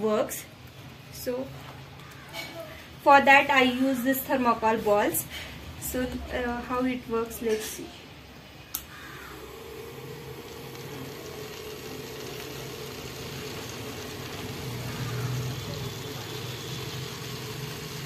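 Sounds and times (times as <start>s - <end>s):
small motor and fan whining: 0.0s - 18.0s.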